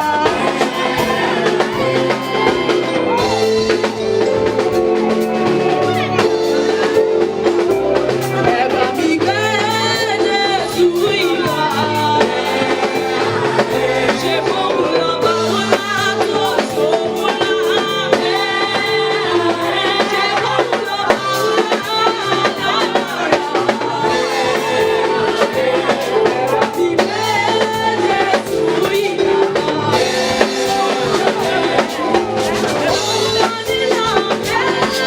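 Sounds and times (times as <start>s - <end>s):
church music with singing: 0.0s - 35.0s
drum kit beat: 0.0s - 35.0s.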